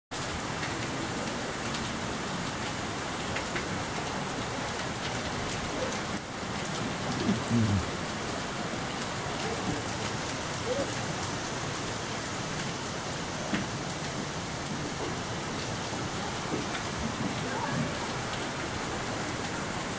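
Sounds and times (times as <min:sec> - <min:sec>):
falling water pattering: 0:00.1 - 0:19.9.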